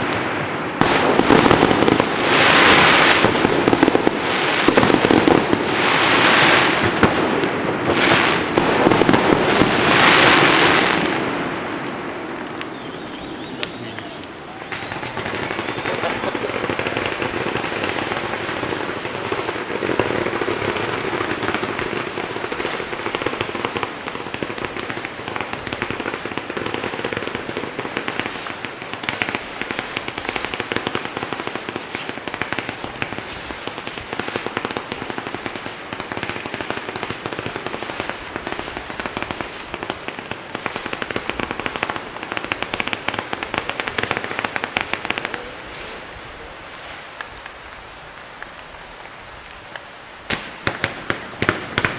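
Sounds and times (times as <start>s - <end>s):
fireworks crackling: 0.0s - 51.9s.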